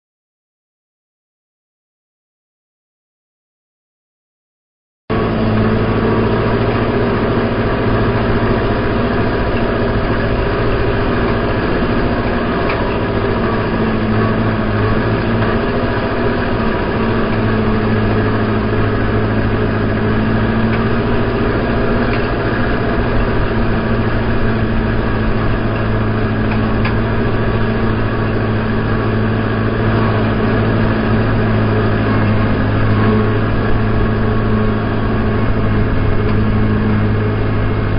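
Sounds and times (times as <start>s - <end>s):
tractor engine drone: 5.1s - 37.9s.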